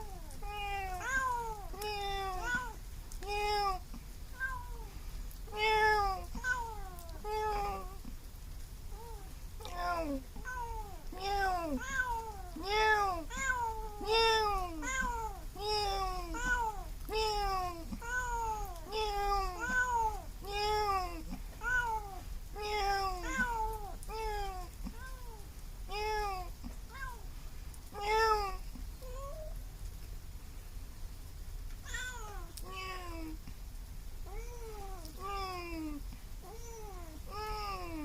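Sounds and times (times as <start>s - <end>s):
cat meowing: 0.0s - 3.8s, 4.4s - 4.9s, 5.5s - 8.0s, 8.9s - 27.2s, 28.0s - 29.6s, 31.8s - 33.4s, 34.3s - 38.0s.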